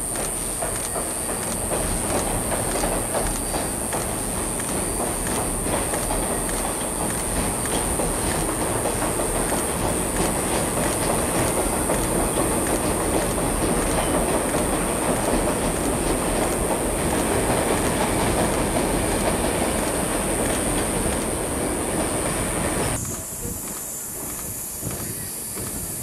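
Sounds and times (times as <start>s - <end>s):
train rumbling over steel bridge: 0.0s - 26.0s
wheels clattering over rail joints: 0.1s - 22.1s.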